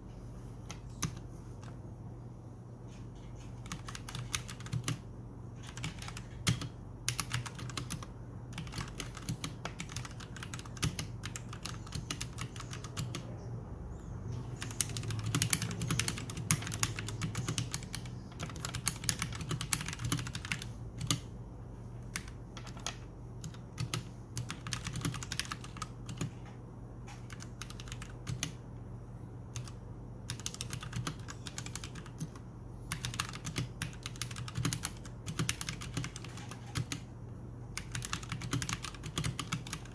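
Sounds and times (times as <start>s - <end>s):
mechanical keyboard typing: 0.7s - 1.8s, 3.2s - 13.3s, 14.6s - 21.3s, 22.0s - 26.5s, 27.1s - 28.6s, 29.5s - 37.1s, 37.8s - 39.9s.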